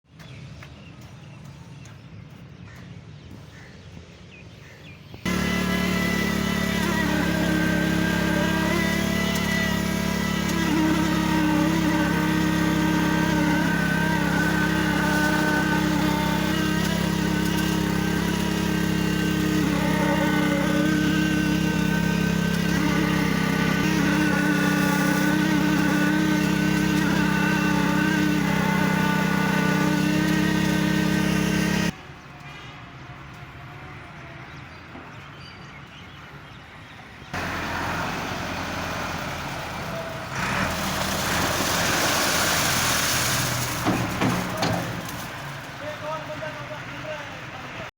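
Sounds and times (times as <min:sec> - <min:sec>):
construction machinery engine drone: 0:00.2 - 0:47.9.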